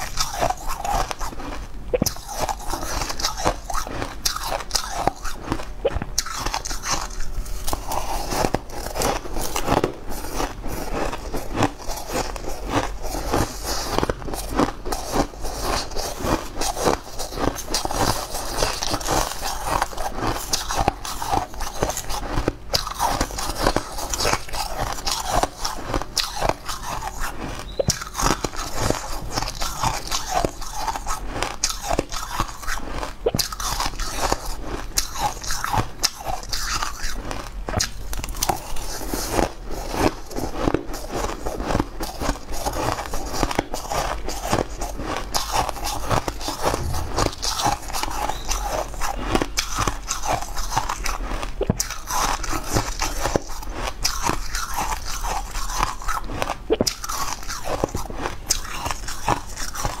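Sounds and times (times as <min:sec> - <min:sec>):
crushed ice being chewed: 0:00.0 - 1:00.0.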